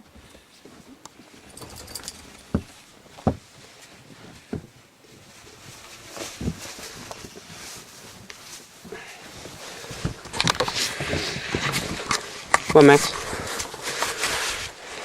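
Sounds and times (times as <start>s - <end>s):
footsteps crunching in snow: 2.3s - 15.0s.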